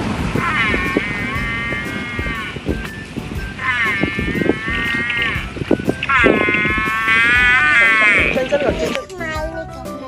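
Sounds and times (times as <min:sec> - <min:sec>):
farm animal calling: 0:00.3 - 0:09.4.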